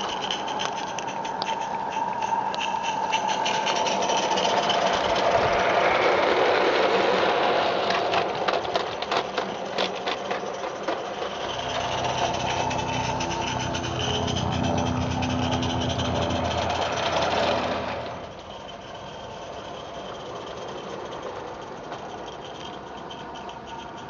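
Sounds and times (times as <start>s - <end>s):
small steam locomotive chatter: 0.0s - 24.0s
wagons clicking over track: 0.0s - 24.0s.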